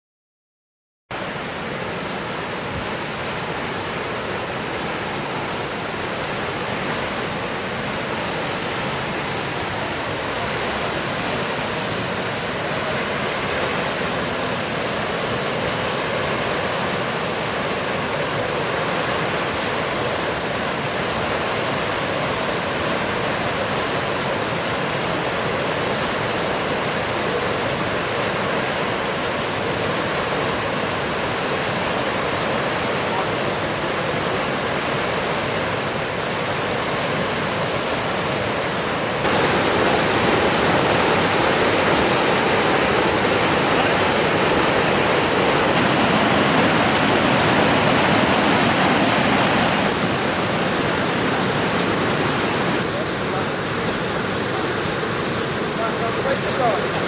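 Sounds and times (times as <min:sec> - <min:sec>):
floodwater rushing: 0:01.1 - 0:57.0.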